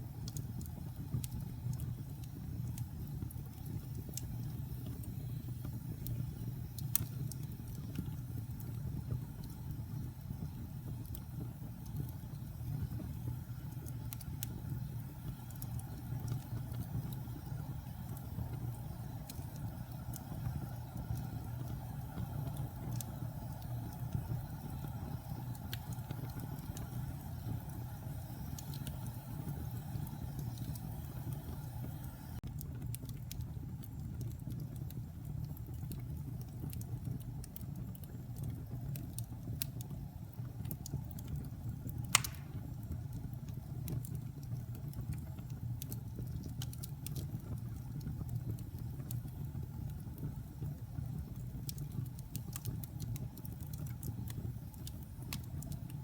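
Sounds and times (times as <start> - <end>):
fire crackles and pops: 0.0 - 56.0
log fire flames rumbling: 0.0 - 56.0.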